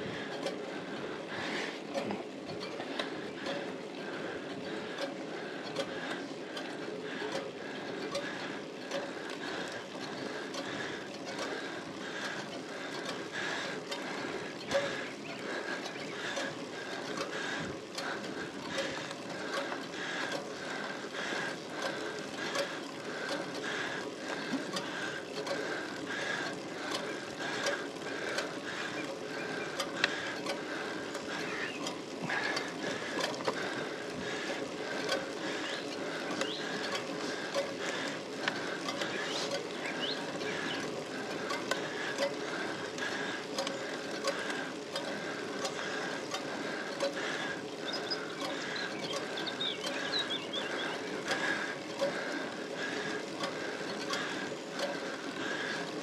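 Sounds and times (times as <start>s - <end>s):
bike chain ticking over gears: 0.0s - 56.0s
faint drivetrain whine: 0.0s - 56.0s.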